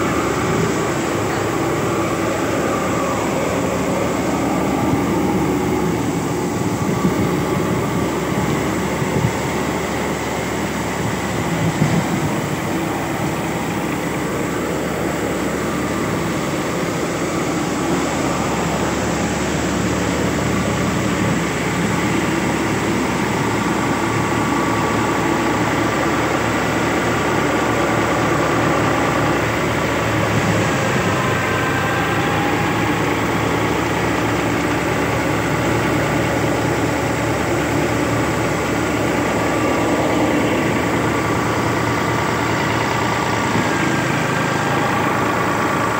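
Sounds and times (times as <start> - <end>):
threshing machine running: 0.0 - 45.9.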